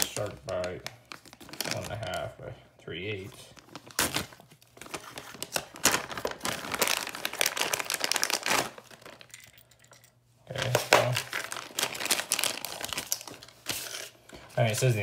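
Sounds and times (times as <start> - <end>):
plastic bag crinkling: 0.0 - 2.3, 3.0 - 14.8.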